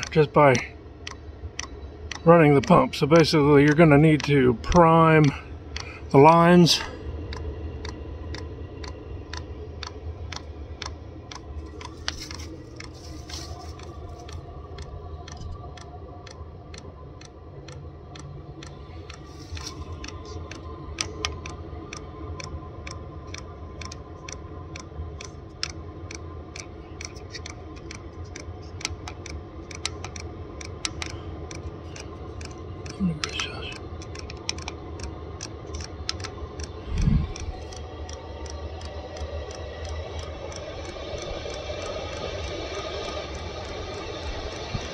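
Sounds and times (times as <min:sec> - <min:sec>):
fuel pump ticking rapidly: 0:00.0 - 0:44.9
heater fan humming: 0:00.0 - 0:44.9.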